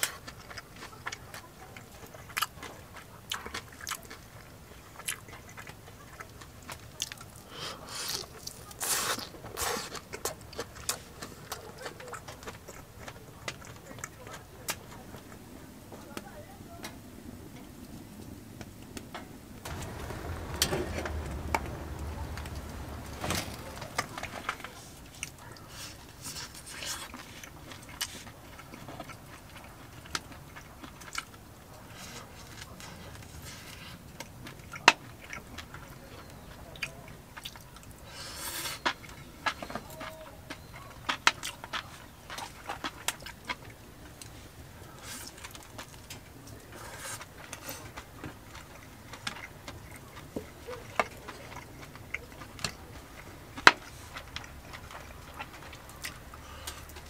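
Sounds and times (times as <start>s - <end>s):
soft chewing: 0.0s - 19.0s, 19.6s - 57.0s.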